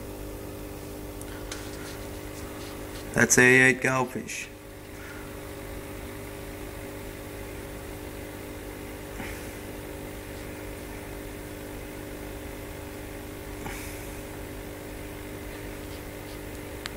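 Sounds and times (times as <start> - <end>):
aquarium pump humming: 0.0 - 16.9.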